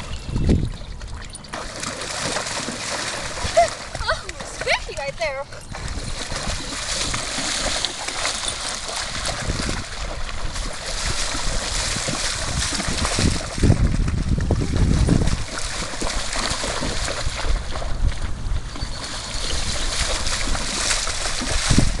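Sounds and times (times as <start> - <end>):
splashing in shallow water: 0.0 - 22.0.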